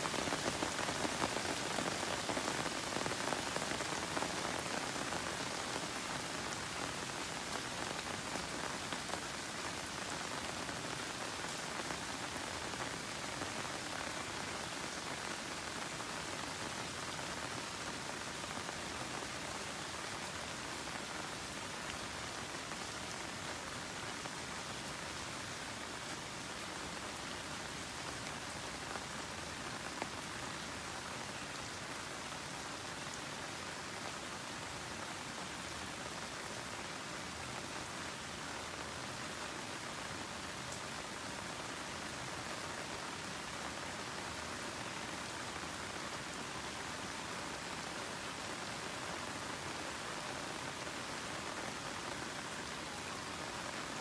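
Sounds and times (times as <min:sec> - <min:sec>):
rain falling on plants: 0:00.0 - 0:54.0.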